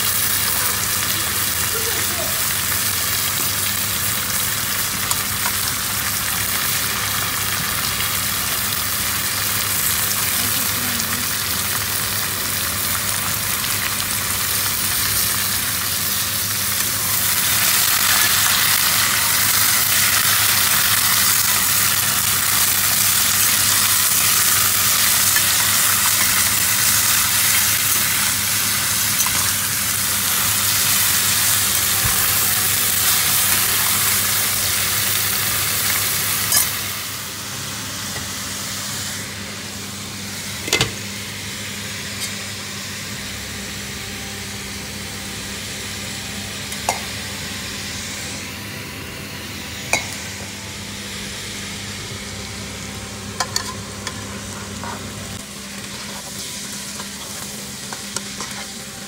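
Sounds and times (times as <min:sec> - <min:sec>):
food sizzling in pan: 0:00.0 - 0:59.0.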